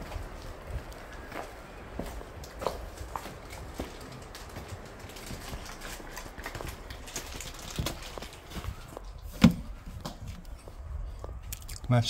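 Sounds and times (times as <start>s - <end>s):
footsteps on debris: 0.0s - 11.8s.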